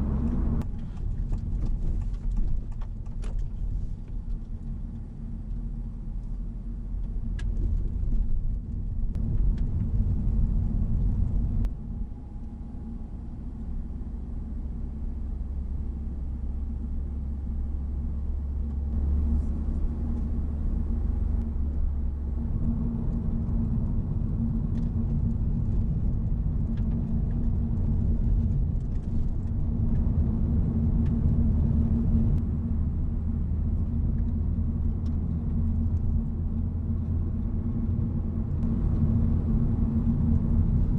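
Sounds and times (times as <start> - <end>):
car engine rumble from cabin: 0.0 - 40.9.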